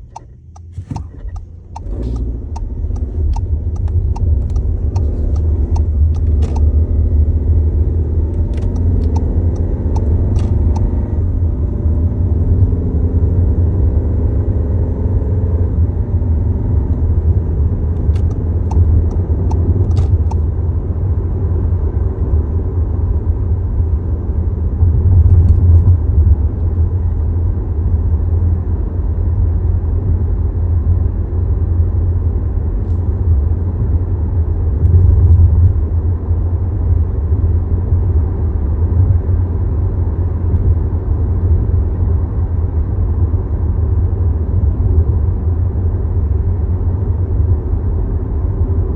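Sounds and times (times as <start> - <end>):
low rumble and droning vibration: 0.0 - 48.9.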